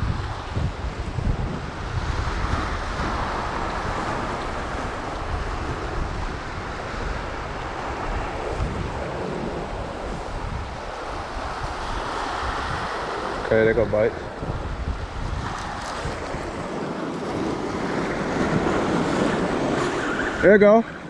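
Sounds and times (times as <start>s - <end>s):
ocean surf on rocks: 0.0s - 21.0s
wind buffeting microphone: 0.0s - 21.0s.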